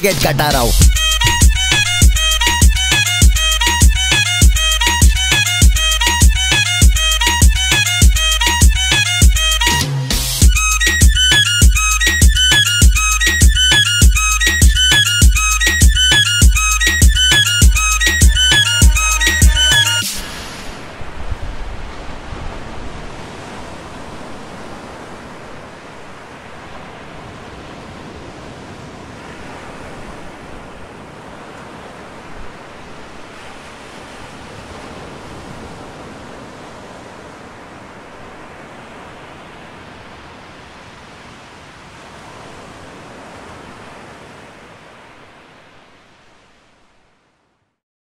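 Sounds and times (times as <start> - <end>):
ocean waves washing: 0.0 - 46.9.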